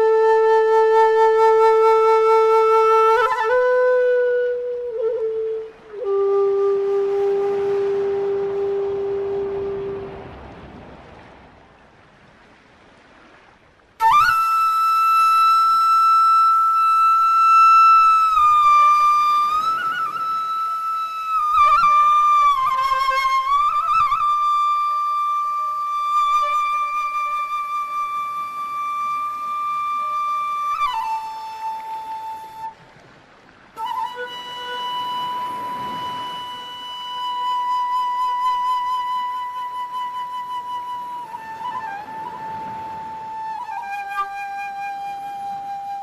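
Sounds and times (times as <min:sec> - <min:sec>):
flute playing slow notes: 0:00.0 - 0:10.7, 0:14.0 - 0:46.0.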